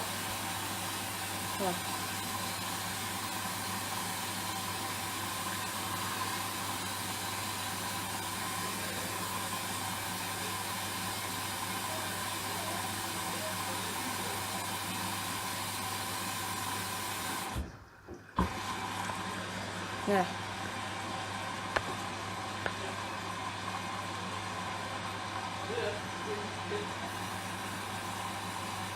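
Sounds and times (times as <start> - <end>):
washing machine hum: 0.0 - 28.9
water hissing into washing machine: 0.0 - 28.9.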